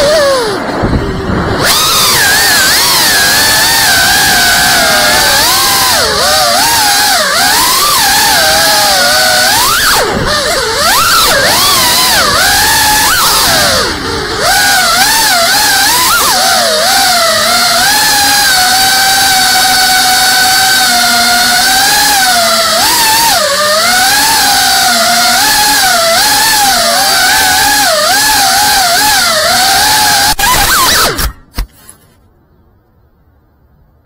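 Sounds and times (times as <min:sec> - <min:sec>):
drone propellers whining: 0:00.0 - 0:31.9.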